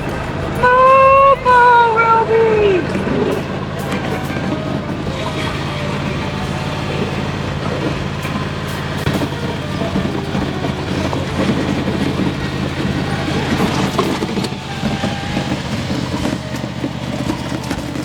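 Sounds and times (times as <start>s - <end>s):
rattling and clattering: 0.0s - 18.0s
vehicle engine running: 0.0s - 18.0s.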